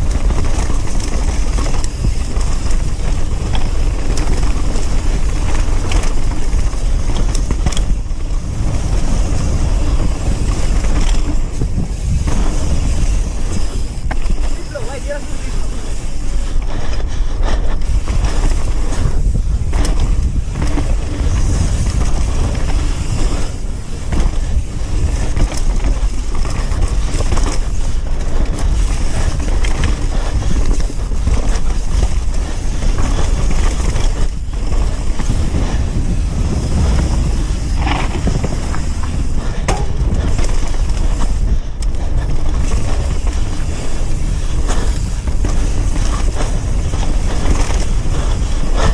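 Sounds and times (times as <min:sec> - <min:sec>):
bike rattling over bumps: 0:00.0 - 0:48.9
steady low rumble: 0:00.0 - 0:48.9
tyres crunching over gravel: 0:00.0 - 0:48.9.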